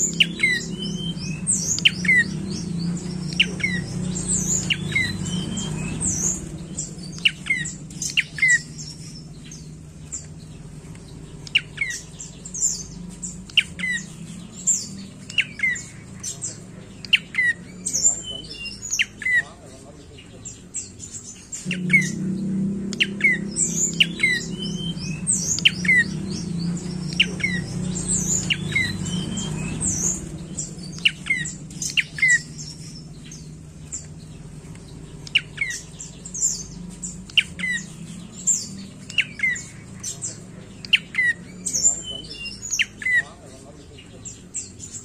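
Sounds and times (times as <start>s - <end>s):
bird calling with high chips: 0.0s - 19.6s, 22.9s - 45.0s.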